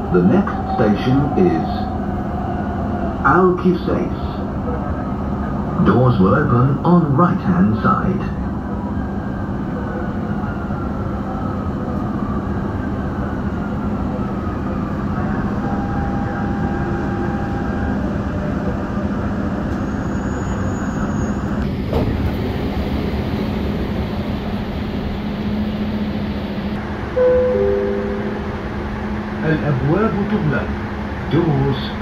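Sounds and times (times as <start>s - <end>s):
train rumble and hum: 0.0s - 32.0s.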